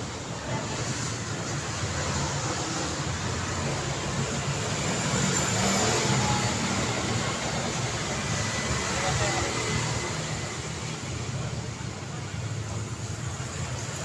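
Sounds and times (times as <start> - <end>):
vehicle engines: 0.0 - 14.0.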